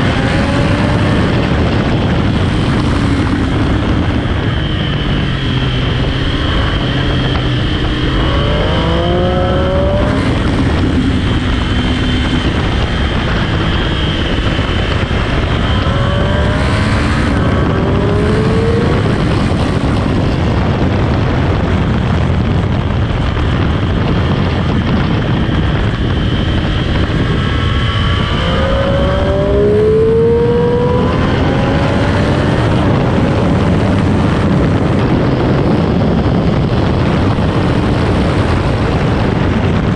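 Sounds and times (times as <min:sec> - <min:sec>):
loud rush of noise: 0:00.0 - 0:39.9
motorcycle engine revving: 0:00.0 - 0:39.9.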